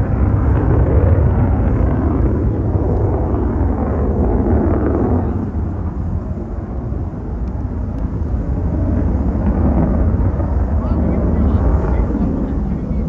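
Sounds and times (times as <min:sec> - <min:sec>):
jet engine rumble in flight: 0:00.0 - 0:13.0.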